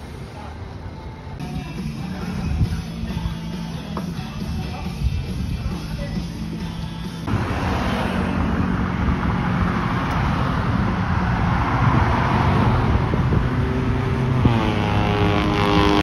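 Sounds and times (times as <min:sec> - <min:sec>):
highway traffic rushing: 0:00.0 - 0:16.0.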